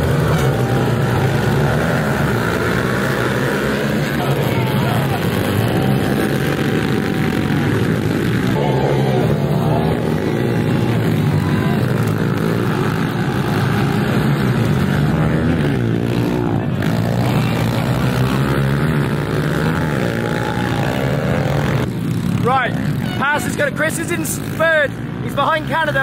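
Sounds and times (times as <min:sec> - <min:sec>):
pit bike engines revving: 0:00.0 - 0:26.0.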